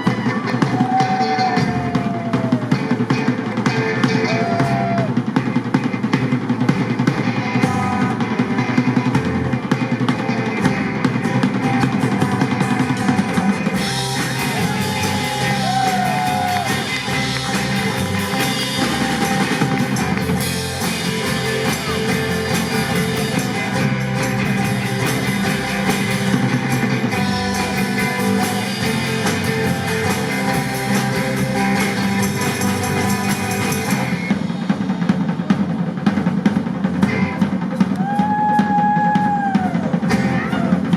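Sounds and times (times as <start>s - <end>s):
drum kit beat: 0.0s - 40.9s
guitar: 0.0s - 40.9s
live rock band playing: 0.0s - 40.9s.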